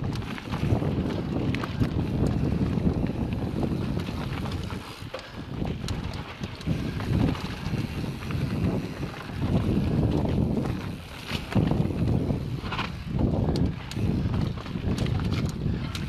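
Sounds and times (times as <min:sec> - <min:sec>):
bike rattling clicks and knocks: 0:00.0 - 0:16.0
wind buffeting microphone: 0:00.0 - 0:16.0.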